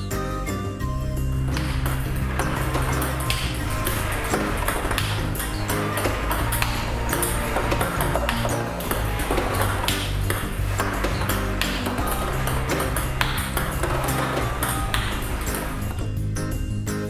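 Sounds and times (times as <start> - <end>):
background music with beat: 0.0 - 17.0
table tennis ball pinging: 1.3 - 16.1.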